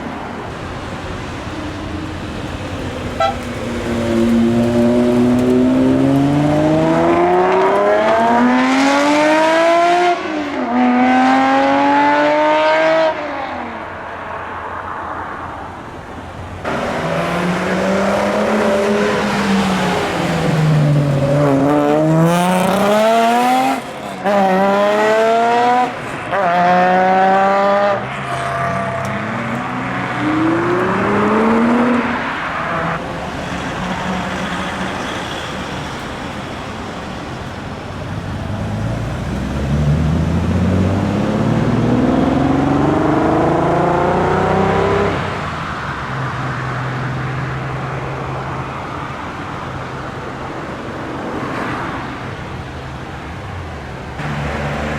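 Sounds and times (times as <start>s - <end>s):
car engines accelerating hard: 0.0s - 15.1s, 15.7s - 54.9s.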